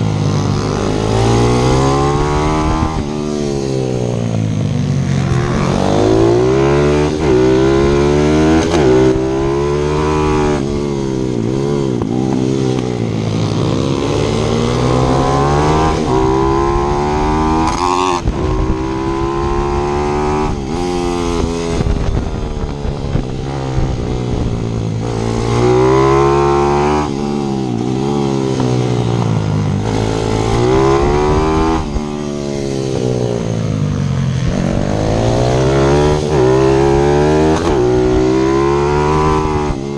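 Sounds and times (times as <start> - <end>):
motorbike engine revving through gears: 0.0 - 39.9.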